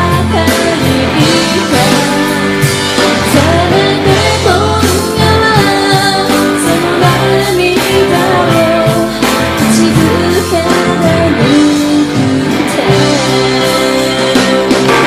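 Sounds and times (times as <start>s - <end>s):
pop-rock band with guitar: 0.0s - 15.0s
woman singing: 0.0s - 15.0s.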